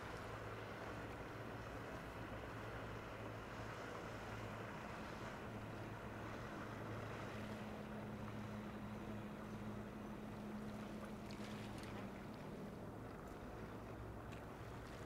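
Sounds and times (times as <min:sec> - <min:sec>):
boat engine humming: 0:00.0 - 0:15.0
higher engine tone: 0:00.0 - 0:15.0
water noise: 0:00.0 - 0:15.0
wind: 0:00.0 - 0:15.0.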